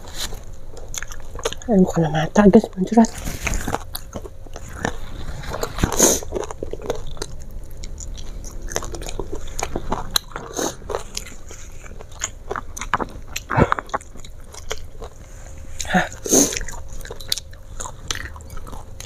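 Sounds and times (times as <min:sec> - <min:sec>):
person chewing crispy food: 0:00.0 - 0:01.8, 0:03.0 - 0:19.0.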